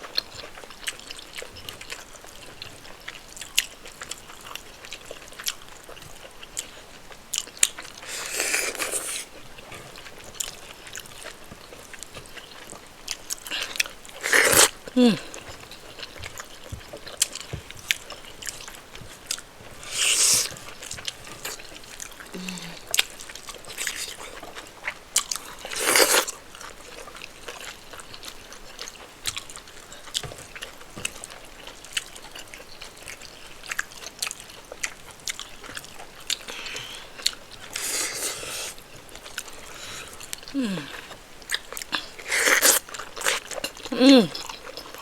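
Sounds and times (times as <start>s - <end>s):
close chewing and mouth sounds: 0.0s - 45.0s.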